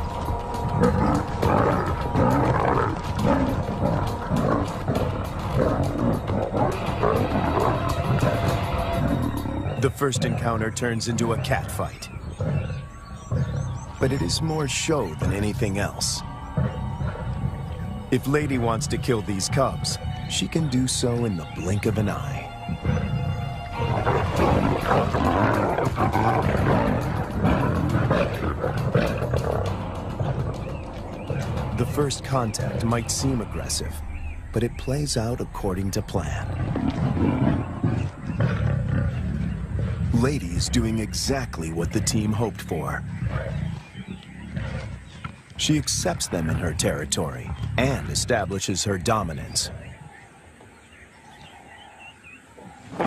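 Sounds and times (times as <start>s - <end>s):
lionesses growling: 0.0s - 53.0s.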